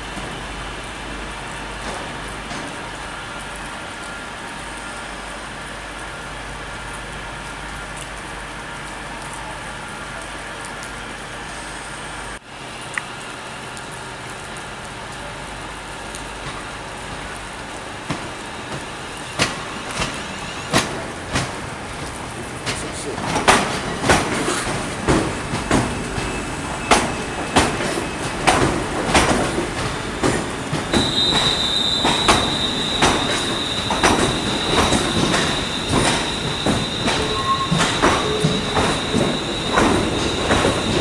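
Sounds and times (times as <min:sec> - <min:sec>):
train wheels clacking over rails: 0:00.0 - 0:12.4, 0:13.6 - 0:41.0.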